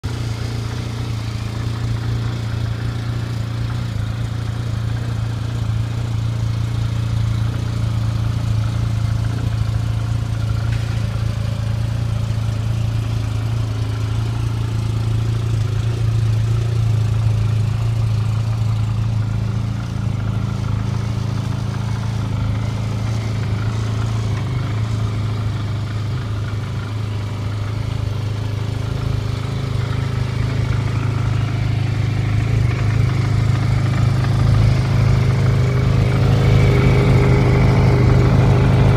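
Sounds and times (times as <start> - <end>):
snowmobile engine idling: 0.0 - 38.9.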